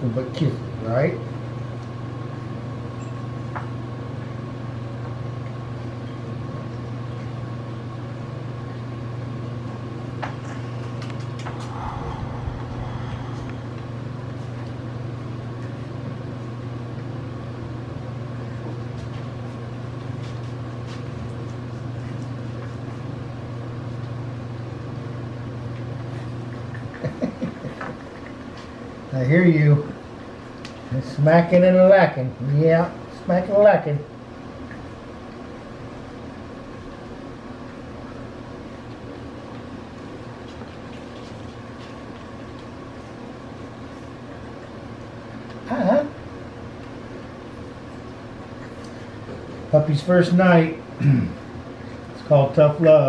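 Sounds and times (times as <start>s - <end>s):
low mechanical hum with whine: 0.0s - 53.0s.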